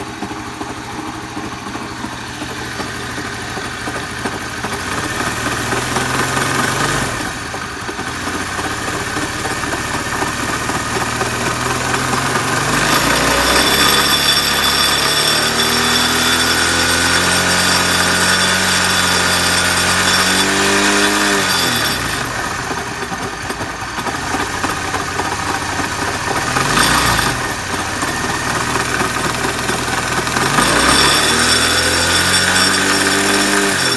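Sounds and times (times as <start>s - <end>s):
engine revving with abnormal noise: 4.0s - 33.9s.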